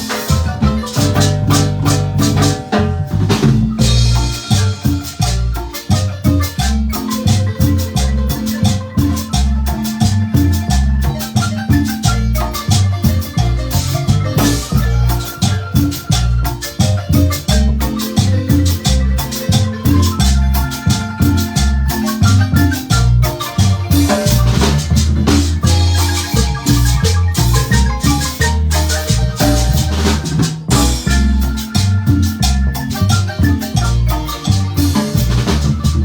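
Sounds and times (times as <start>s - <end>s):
marimba band playing dance tune: 0.0s - 36.0s.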